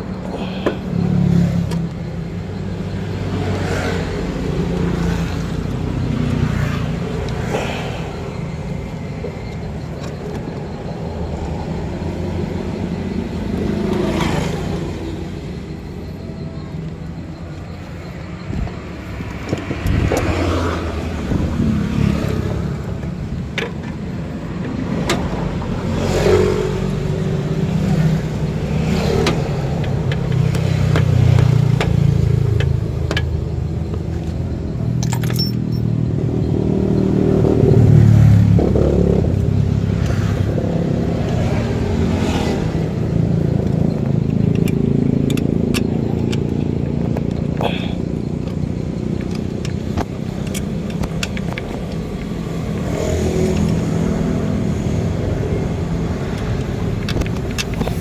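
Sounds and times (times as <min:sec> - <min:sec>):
car engine revving: 0:09.2 - 0:58.0.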